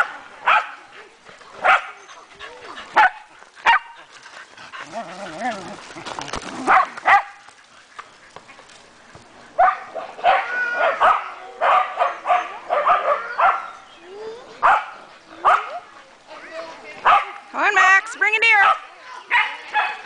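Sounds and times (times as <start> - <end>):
dogs barking and yipping: 0.0 - 8.8, 9.5 - 16.2, 16.8 - 20.0.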